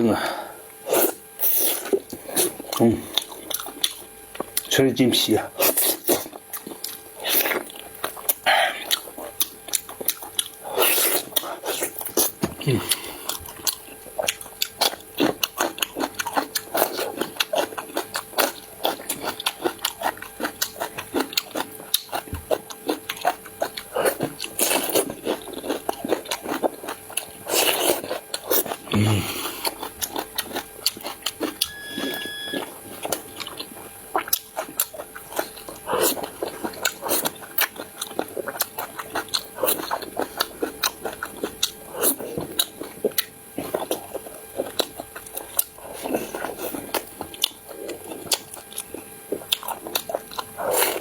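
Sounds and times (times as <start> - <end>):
person chewing: 0.8 - 4.7, 5.5 - 51.0
food crunching: 0.9 - 4.8, 5.5 - 51.0.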